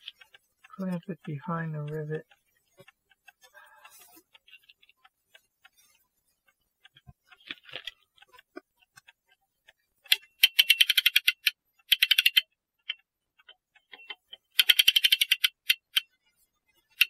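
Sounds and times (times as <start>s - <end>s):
ratchet clicking: 1.8s - 17.0s.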